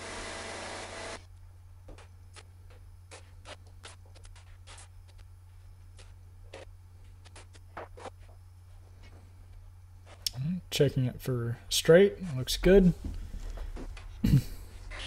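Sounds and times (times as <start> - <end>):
steady low hum: 0.6 - 15.0.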